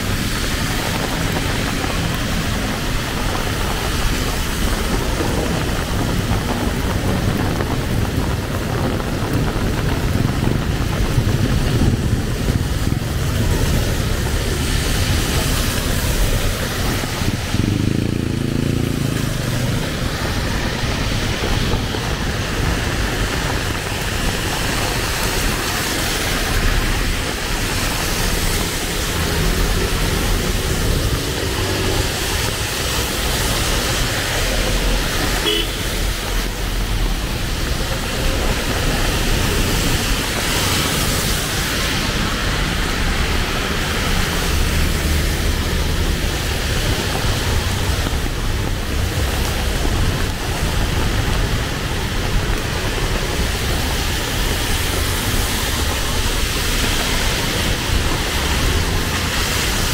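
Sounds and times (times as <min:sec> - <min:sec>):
heavy rain on street: 0:00.0 - 0:59.9
road traffic passing: 0:00.0 - 0:59.9
vehicle engine: 0:00.0 - 0:59.9.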